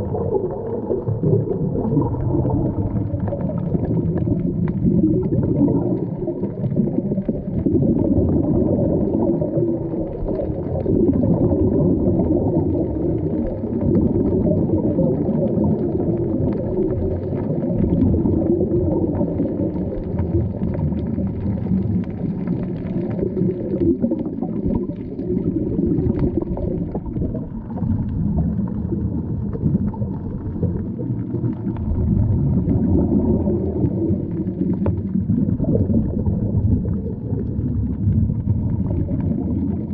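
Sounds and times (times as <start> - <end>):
air bubbles bubbling underwater: 0.0 - 39.9
muffled underwater rumble: 0.0 - 39.9.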